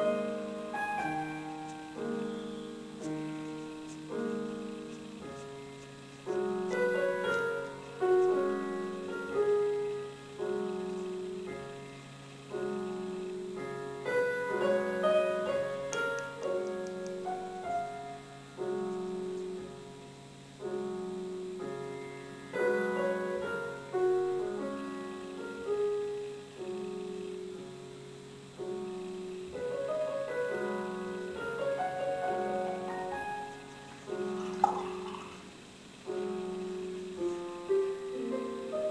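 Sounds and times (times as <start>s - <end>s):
slow solo piano music: 0.0s - 38.9s.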